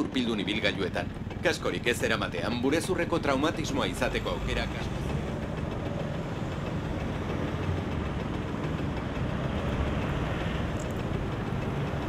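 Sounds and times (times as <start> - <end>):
scooter engine idling: 0.0 - 12.0
street traffic: 0.0 - 12.0.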